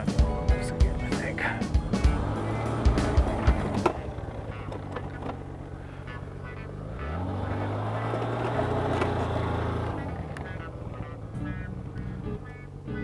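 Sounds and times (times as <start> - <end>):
snowmobile engine revving: 1.1 - 13.0.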